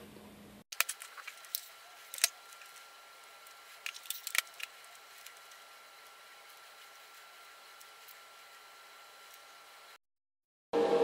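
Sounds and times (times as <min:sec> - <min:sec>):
masking tape crinkling and tearing: 0:00.7 - 0:09.7.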